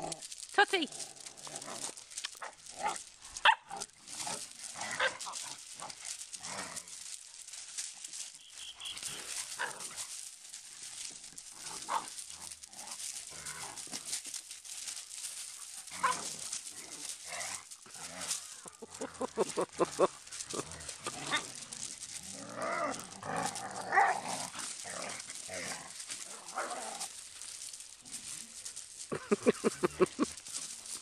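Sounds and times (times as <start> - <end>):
puppies barking and yapping: 1.2 - 31.0.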